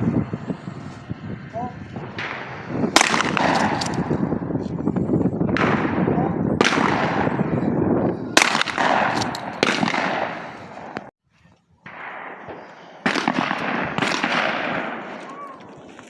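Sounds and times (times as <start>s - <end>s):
shotgun shots with rolling echo: 0.0s - 4.6s, 5.4s - 11.1s, 11.8s - 15.6s.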